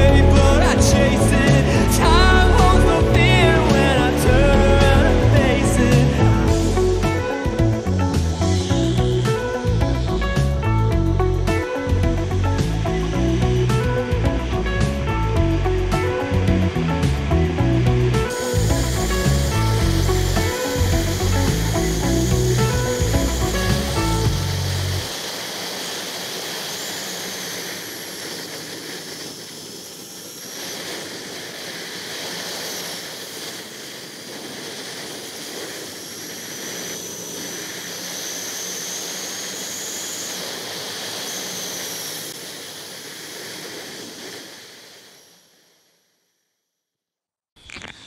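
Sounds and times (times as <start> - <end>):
wind rush: 0.0 - 39.5
motorcycle road noise: 0.0 - 44.8.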